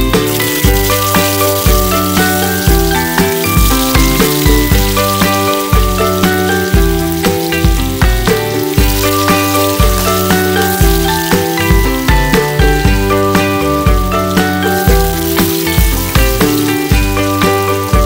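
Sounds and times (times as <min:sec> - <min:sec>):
background music with bass beat: 0:00.0 - 0:18.0
tofu sizzling in oil: 0:00.0 - 0:18.0.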